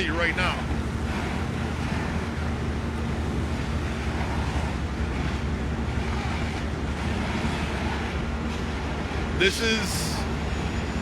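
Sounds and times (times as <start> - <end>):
constant rushing noise: 0.0 - 11.0
diesel engines humming: 0.0 - 11.0.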